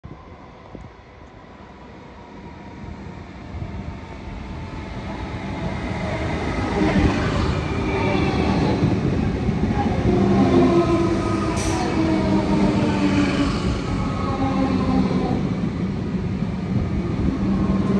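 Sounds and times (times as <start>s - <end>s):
diesel locomotive approaching: 0.1s - 17.9s.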